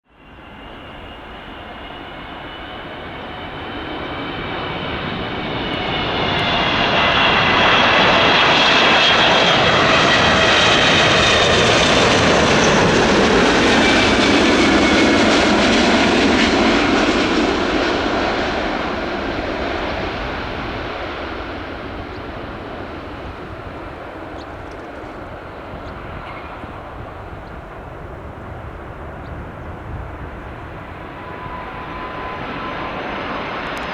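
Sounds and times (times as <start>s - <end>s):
jet engine whine: 0.1s - 33.9s
deep jet rumble: 0.4s - 33.9s.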